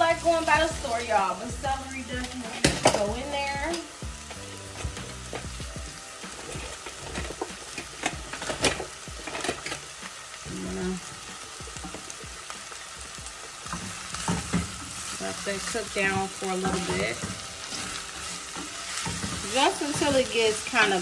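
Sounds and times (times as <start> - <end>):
sharp oil crackles: 0.0 - 21.0
vegetables sizzling in oil: 0.0 - 21.0.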